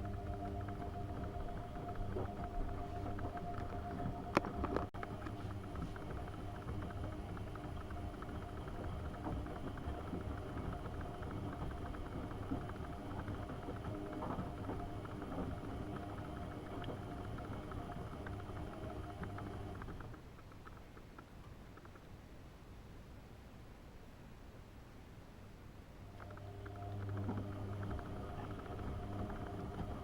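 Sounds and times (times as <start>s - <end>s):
washing machine motor humming: 0.0s - 20.2s, 26.1s - 30.0s.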